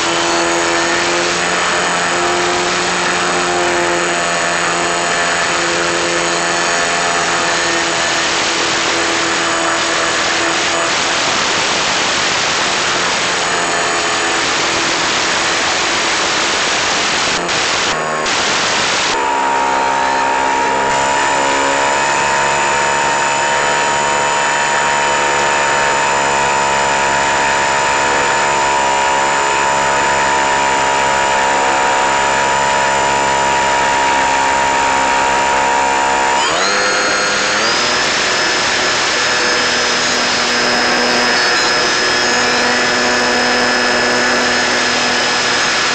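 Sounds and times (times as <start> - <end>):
model airplane motor whine: 0.0 - 45.9.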